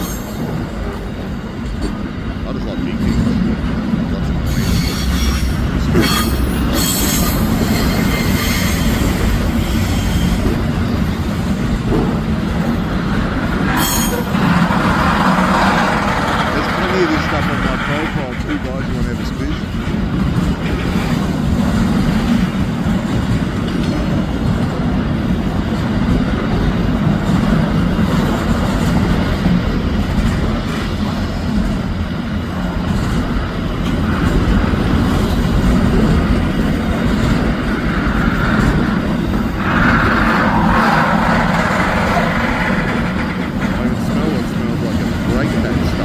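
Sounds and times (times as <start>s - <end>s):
freight train wagons rumbling: 0.0s - 46.0s.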